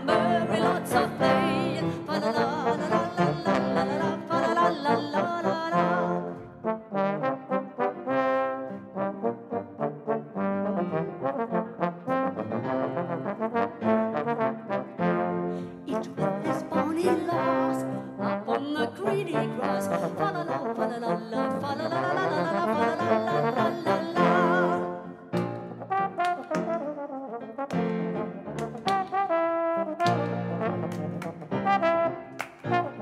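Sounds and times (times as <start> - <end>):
trombones playing: 0.0 - 33.0.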